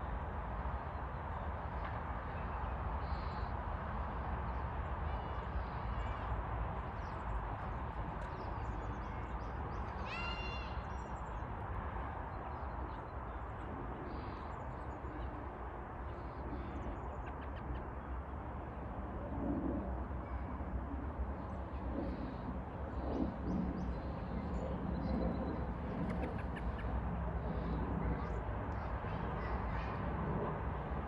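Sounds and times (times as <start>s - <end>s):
outdoor background noise: 0.0s - 31.0s.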